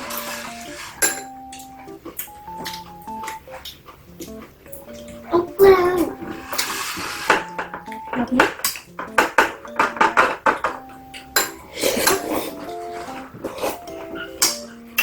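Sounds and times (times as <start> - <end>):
cutlery clinking against dishes: 0.0 - 5.3, 6.1 - 15.0.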